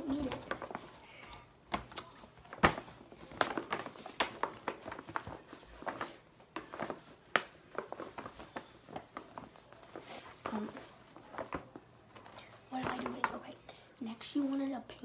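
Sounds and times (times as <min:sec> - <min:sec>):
paper bag rustling: 0:00.0 - 0:01.3, 0:02.2 - 0:13.5.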